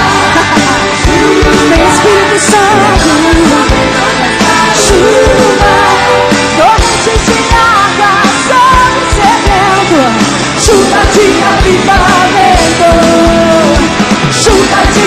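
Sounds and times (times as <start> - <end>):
drum beat with cymbals: 0.0 - 15.0
woman singing into a microphone: 0.0 - 15.0
worship band playing: 0.0 - 15.0.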